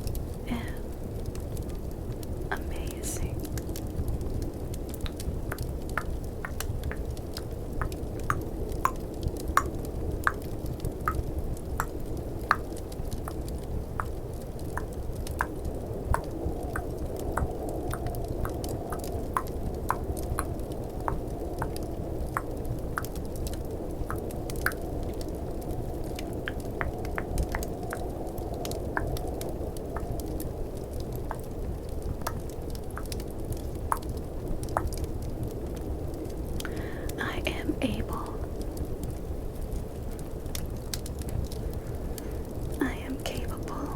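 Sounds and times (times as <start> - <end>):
fireplace crackling: 0.0 - 43.9
snowstorm wind: 0.0 - 43.9.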